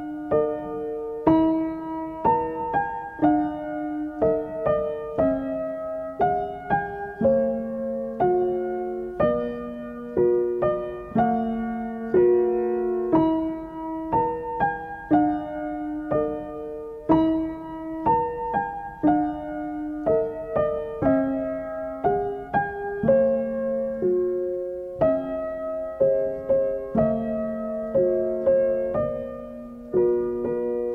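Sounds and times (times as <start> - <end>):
gentle piano melody: 0.0 - 30.9.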